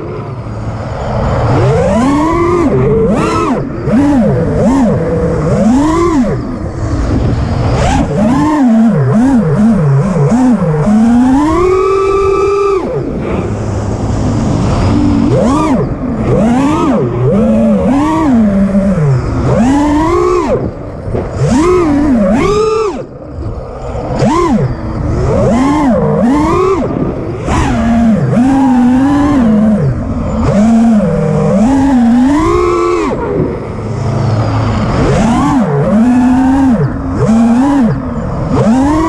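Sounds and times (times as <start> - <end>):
drone motors and propellers whining: 0.0 - 39.0.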